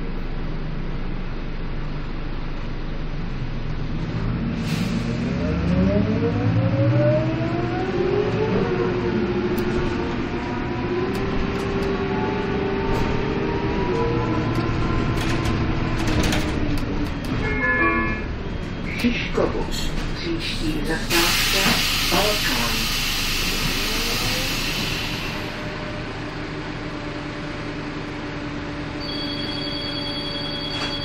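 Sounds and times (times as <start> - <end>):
bus engine accelerating: 0.0 - 31.0.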